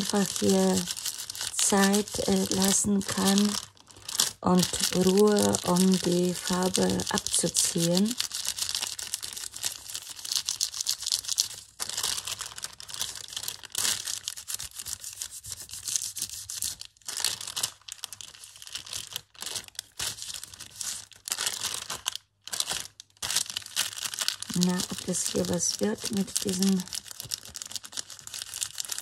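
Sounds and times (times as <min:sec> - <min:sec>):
paper crinkling and rustling: 0:00.0 - 0:29.0.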